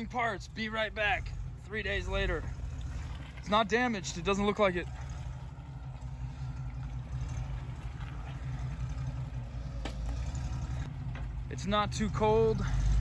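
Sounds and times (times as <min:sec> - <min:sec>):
engine running low hum: 0:00.0 - 0:13.0.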